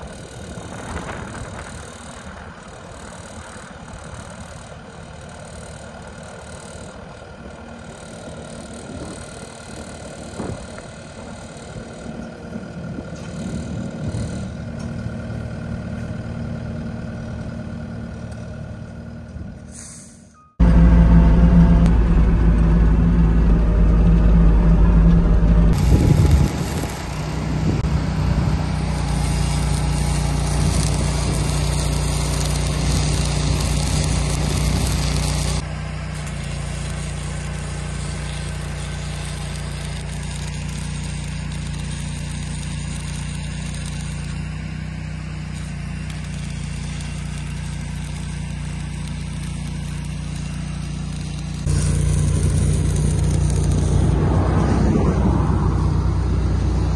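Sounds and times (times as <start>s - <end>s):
vehicle engine humming: 0.0s - 56.9s.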